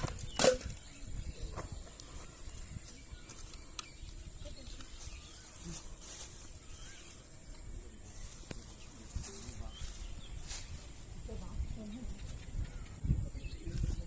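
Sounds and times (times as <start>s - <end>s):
faint chirps: 0.2s - 14.0s.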